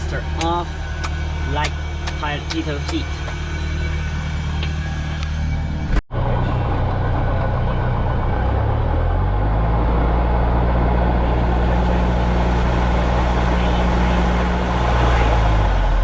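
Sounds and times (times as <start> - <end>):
piston aircraft engine running: 0.0 - 16.0.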